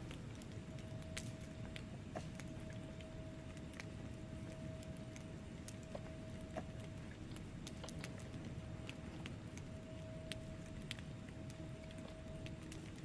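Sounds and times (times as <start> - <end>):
faint steady tone: 0.0 - 13.0
fire flames rumbling: 0.0 - 13.0
logs crackling and popping: 0.0 - 13.0.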